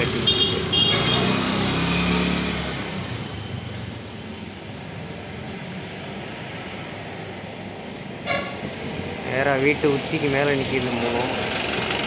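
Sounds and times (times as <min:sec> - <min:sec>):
hum of traffic noise: 0:00.0 - 0:12.0
passing vehicle engine: 0:00.0 - 0:12.0.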